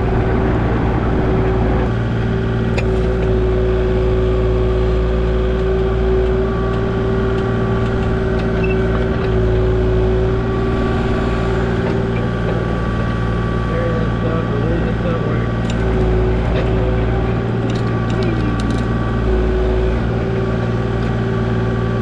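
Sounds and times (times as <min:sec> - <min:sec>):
diesel engine running with whine: 0:00.0 - 0:22.0.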